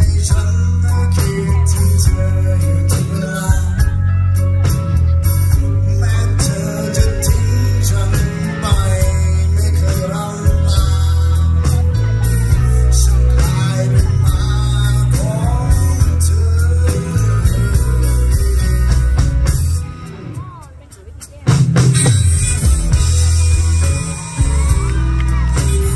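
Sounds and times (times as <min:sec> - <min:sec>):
heavy bass line: 0:00.0 - 0:20.7, 0:21.4 - 0:25.9
electric guitar: 0:00.0 - 0:20.8, 0:21.4 - 0:25.9
drums: 0:00.0 - 0:25.9
man singing amplified: 0:00.0 - 0:25.9.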